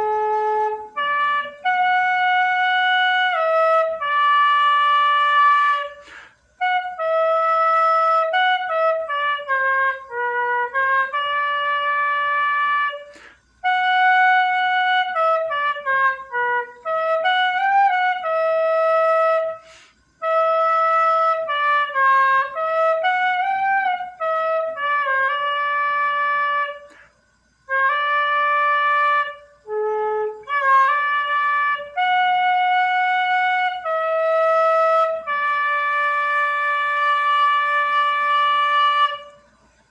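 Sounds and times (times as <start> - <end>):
cane flute melody: 0.0 - 27.1, 27.7 - 39.9.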